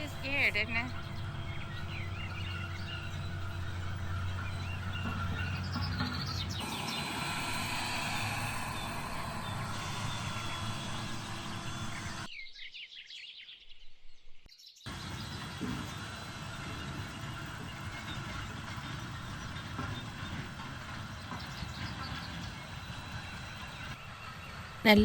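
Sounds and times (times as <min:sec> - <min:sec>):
farm machinery rumbling: 0:00.0 - 0:12.3, 0:14.9 - 0:25.0
small birds chirping: 0:00.0 - 0:16.0, 0:16.6 - 0:25.0.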